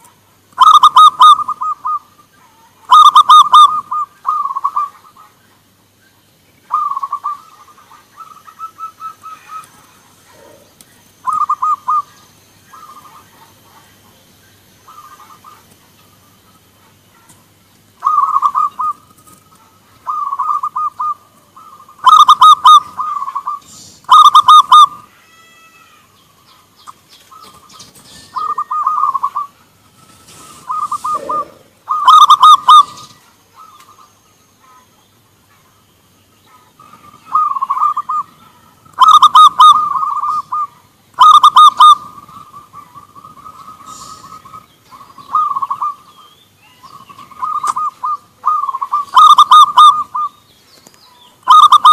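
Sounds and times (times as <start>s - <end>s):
doves cooing: 0.0s - 50.5s, 51.3s - 51.9s.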